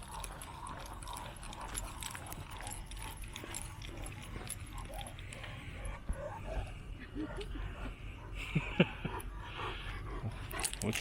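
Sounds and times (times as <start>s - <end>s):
dog panting: 0.0s - 11.0s
light clicks and jingles: 0.0s - 11.0s.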